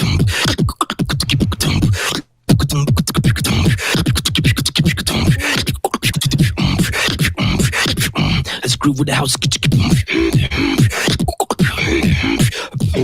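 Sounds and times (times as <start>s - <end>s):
beatboxing house beat: 0.0s - 13.0s.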